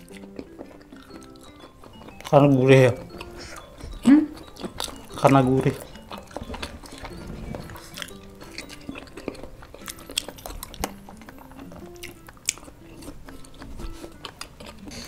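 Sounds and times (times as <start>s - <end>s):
wet mouth clicks: 0.0s - 2.4s, 3.1s - 15.0s
chewing crispy chicken: 0.0s - 15.0s
soft background music: 0.0s - 15.0s.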